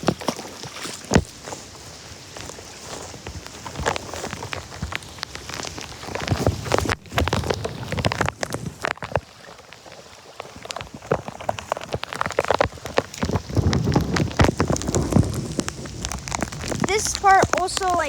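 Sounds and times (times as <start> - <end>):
splashing in shallow water: 0.0 - 18.0
rain falling: 1.1 - 18.0.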